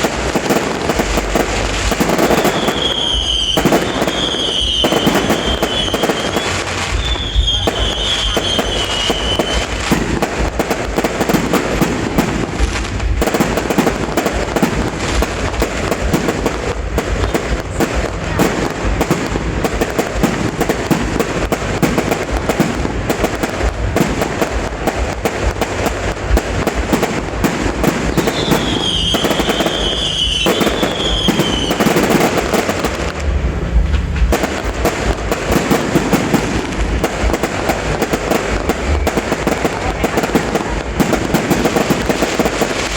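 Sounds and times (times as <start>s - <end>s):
fireworks cracks and bangs: 0.0s - 42.9s.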